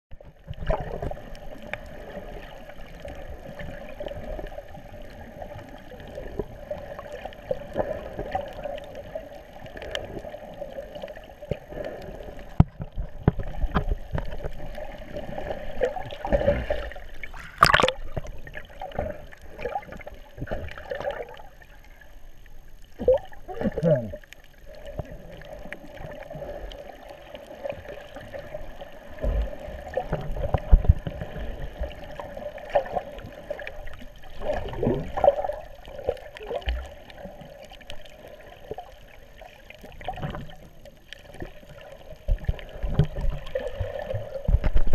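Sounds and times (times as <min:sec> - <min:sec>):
underwater sloshing and gurgling: 0:00.1 - 0:44.9.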